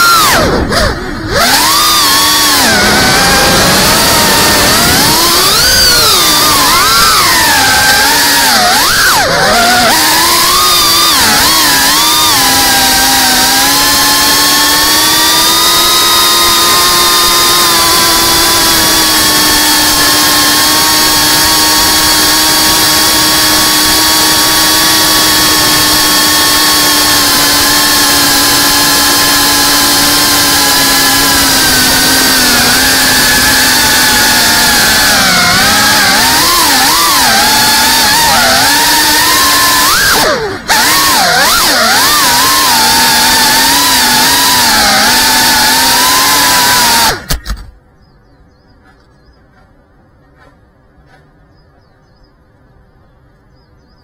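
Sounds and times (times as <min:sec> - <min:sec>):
quadcopter motors buzzing: 0:00.0 - 0:47.8.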